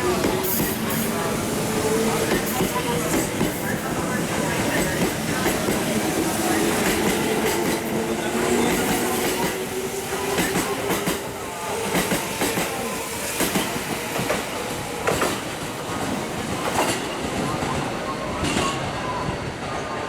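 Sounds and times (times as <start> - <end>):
electric train hum: 0.0 - 17.7
train rumble: 0.0 - 20.0.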